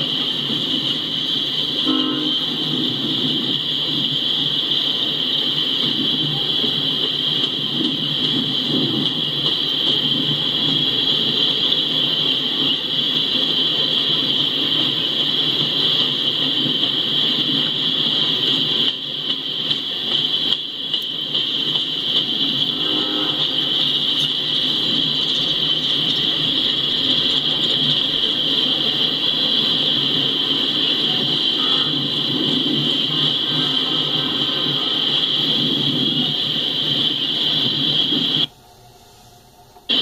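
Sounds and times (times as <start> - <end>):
freight train wheels rumbling on rail: 0.0 - 40.0
high-pitched hiss: 0.0 - 40.0.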